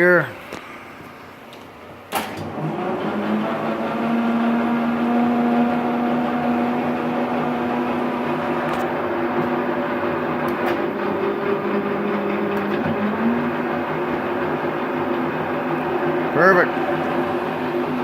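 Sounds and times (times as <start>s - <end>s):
lathe motor whining: 2.3s - 18.0s.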